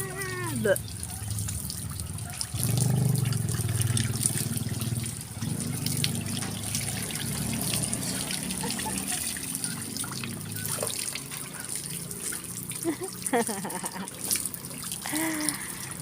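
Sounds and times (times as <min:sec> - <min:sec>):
small splashes and drips: 0:00.0 - 0:16.0
water running and trickling: 0:00.0 - 0:16.0.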